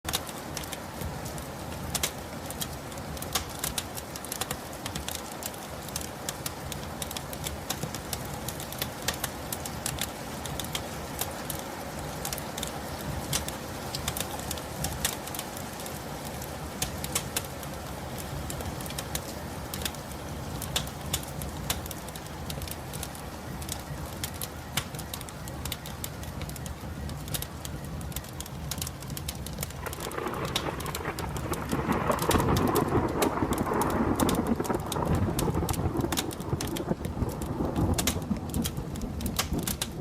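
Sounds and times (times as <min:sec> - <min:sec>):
sharp drips and ticks: 0:00.0 - 0:40.0
steady rain: 0:00.0 - 0:40.0.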